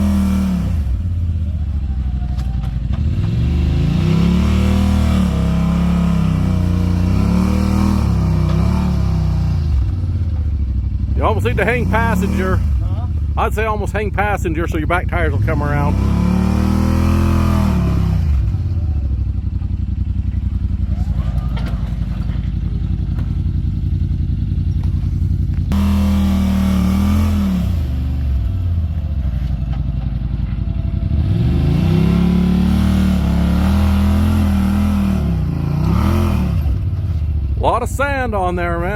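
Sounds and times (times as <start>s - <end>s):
utility vehicle engine revving: 0.0s - 38.9s.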